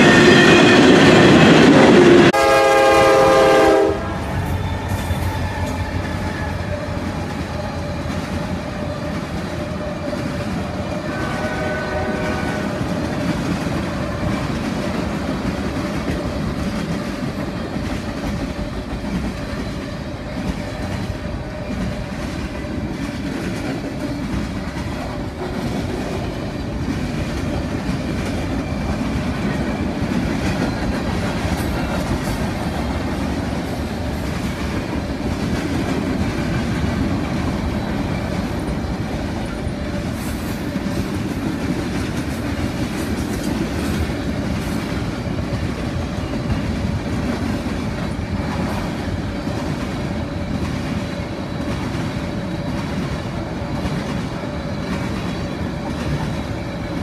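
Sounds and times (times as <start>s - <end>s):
freight train cars rumbling: 0.0s - 57.0s.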